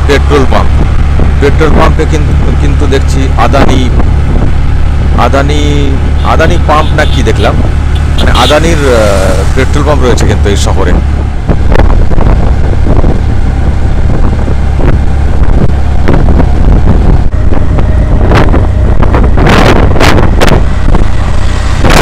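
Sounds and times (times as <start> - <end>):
wind buffeting microphone: 0.0 - 6.6, 7.4 - 22.0
auto-rickshaw engine rumble: 0.0 - 22.0.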